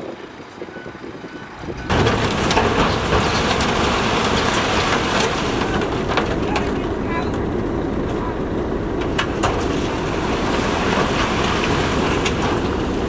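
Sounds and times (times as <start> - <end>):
construction machinery engine: 0.0 - 13.0
machinery rattling and clanking: 0.0 - 13.0.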